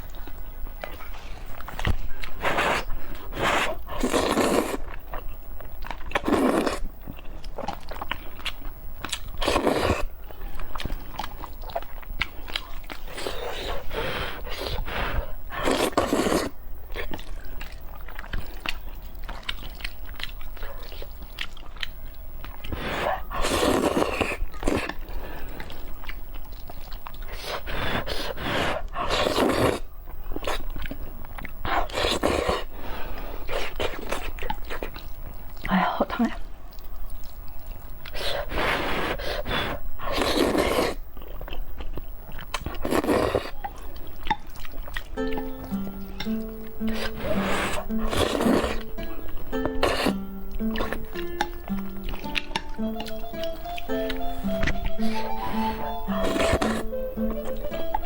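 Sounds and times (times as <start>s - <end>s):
person chewing and crunching meat: 0.0s - 35.7s, 36.4s - 57.7s.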